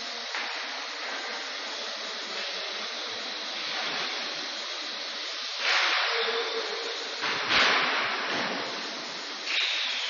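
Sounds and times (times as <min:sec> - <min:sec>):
factory machinery hiss: 0:00.0 - 0:10.0.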